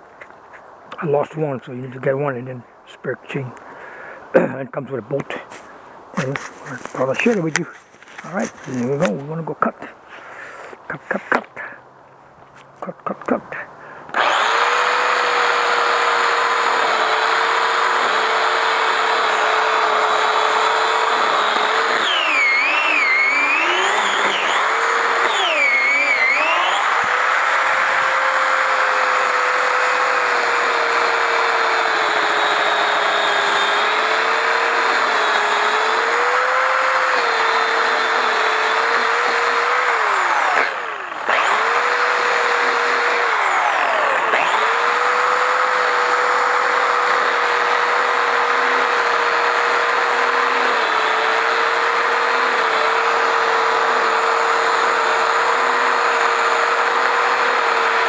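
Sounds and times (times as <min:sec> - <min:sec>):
electric pole saw whining: 0:05.6 - 0:09.4, 0:14.1 - 0:58.0.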